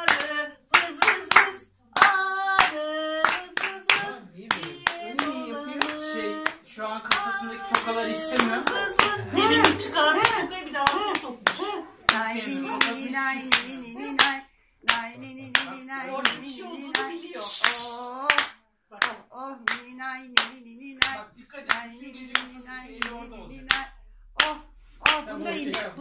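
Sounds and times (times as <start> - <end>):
hand clapping: 0.0 - 26.0
person singing: 0.0 - 26.0.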